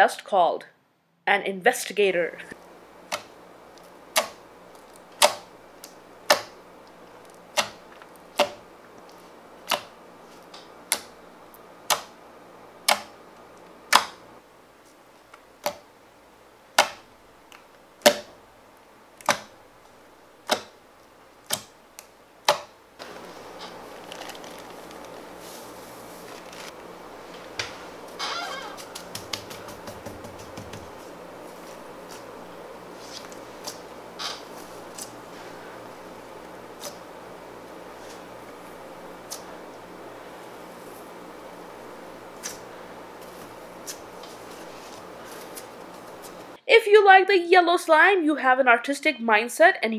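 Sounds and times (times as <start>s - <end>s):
soft steady hiss: 0.0s - 49.9s.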